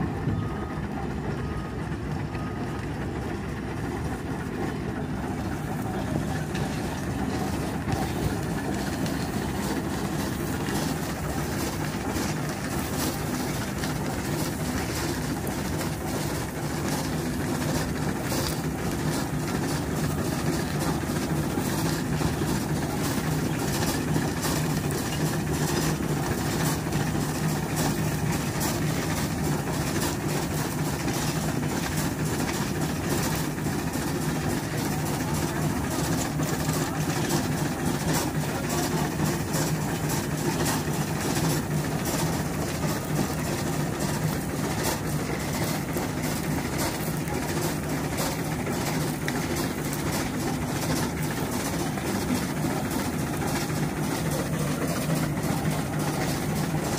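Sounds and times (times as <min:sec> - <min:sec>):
steam traction engine running: 0:00.0 - 0:56.9.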